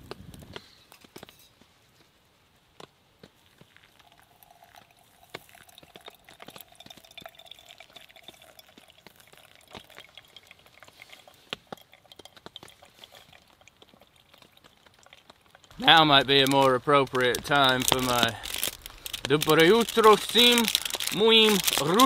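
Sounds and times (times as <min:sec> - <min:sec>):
water trickling over coffee: 0:03.4 - 0:22.0.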